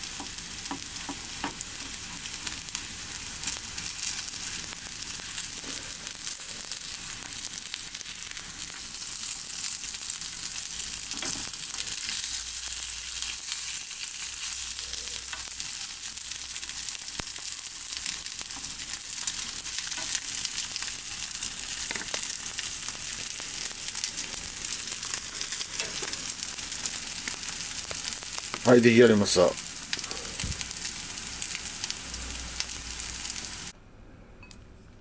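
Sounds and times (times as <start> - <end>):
cutlets sizzling in oil: 0.0 - 33.7.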